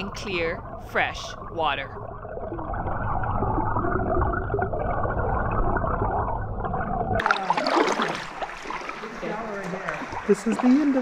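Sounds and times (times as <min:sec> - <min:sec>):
muffled underwater gurgling rush: 0:00.0 - 0:11.0
water splashing and dripping: 0:00.0 - 0:11.0.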